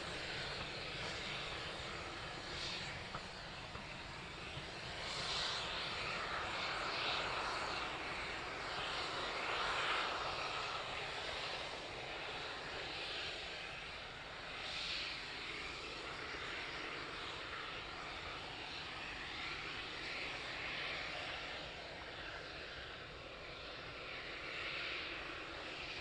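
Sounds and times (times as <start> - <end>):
steam locomotive passing: 0.0 - 26.0.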